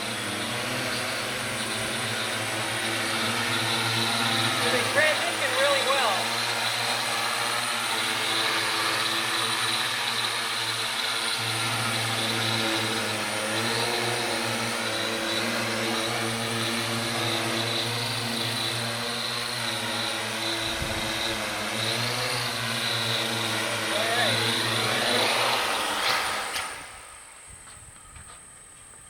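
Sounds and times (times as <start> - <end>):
drone propellers humming: 0.0 - 29.0.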